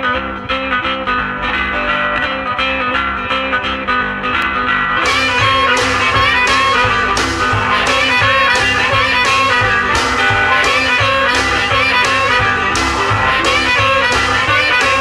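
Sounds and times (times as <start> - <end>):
drums keeping a steady beat: 0.0 - 15.0
electric guitar: 0.0 - 15.0.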